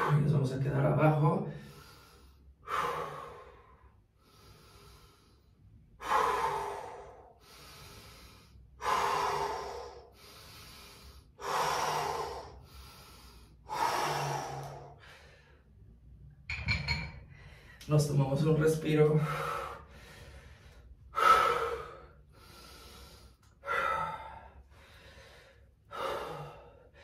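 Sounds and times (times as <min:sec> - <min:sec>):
person breathing hard: 0:01.4 - 0:16.2, 0:17.2 - 0:17.9, 0:19.2 - 0:27.0.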